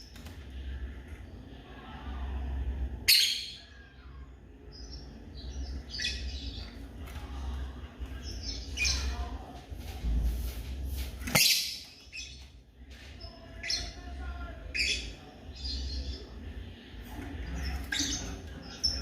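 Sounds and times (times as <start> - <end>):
lovebirds chirping and squawking: 3.0 - 19.0.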